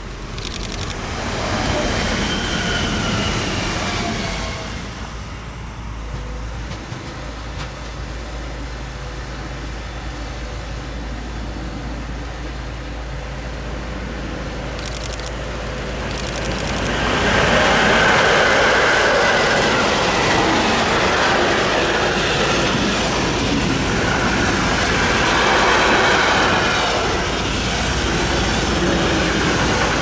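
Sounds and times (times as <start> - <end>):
train passing with whine: 0.0 - 30.0
train rumble: 0.0 - 30.0.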